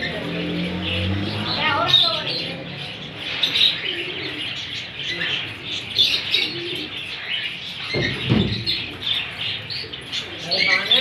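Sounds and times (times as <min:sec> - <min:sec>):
parakeets chirping: 0:00.0 - 0:11.0.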